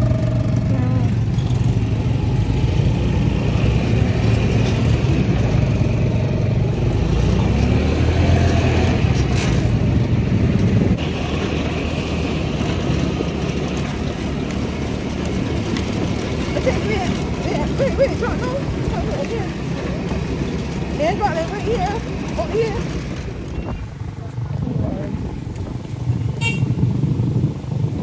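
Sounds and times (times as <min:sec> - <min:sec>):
buggy engine running: 0:00.0 - 0:28.0
ride rumble: 0:00.0 - 0:28.0.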